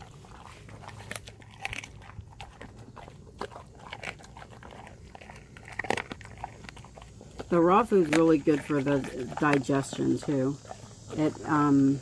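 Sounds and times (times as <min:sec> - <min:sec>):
dog chewing bone: 0:00.0 - 0:12.0.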